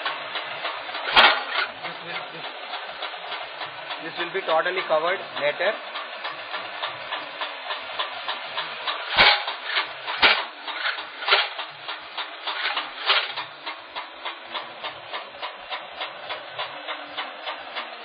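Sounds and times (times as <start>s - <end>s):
spinning disc rapid ticking: 0.0s - 18.0s.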